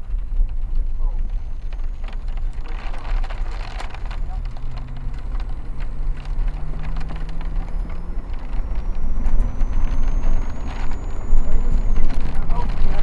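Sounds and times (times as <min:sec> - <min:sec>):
engine and road rumble: 0:00.0 - 0:13.0
faint high whine: 0:00.0 - 0:13.0.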